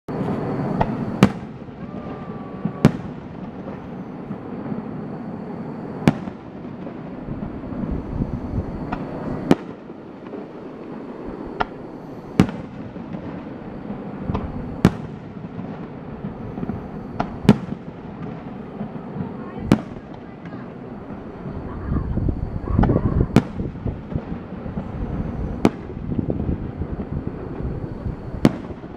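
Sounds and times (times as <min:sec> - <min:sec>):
fireworks bursting: 0:00.1 - 0:28.9
steady background noise: 0:00.1 - 0:28.9.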